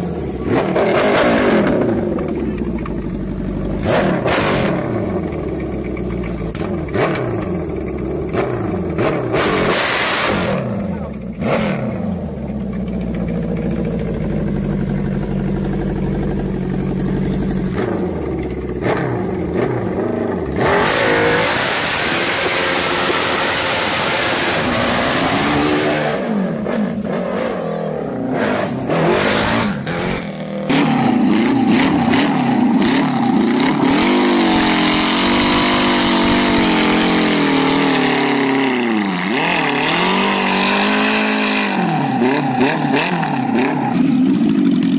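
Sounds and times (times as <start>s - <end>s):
powerful engines revving: 0.0s - 44.9s.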